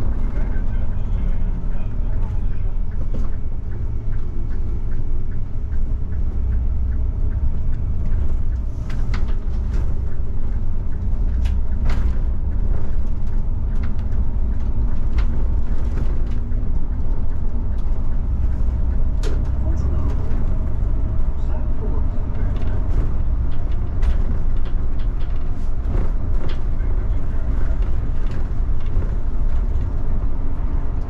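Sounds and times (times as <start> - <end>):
bus engine and road rumble: 0.0 - 31.0.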